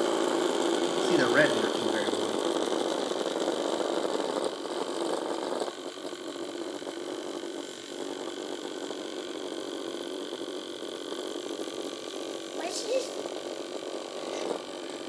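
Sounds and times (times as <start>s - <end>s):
toy motor buzzing: 0.0s - 15.0s.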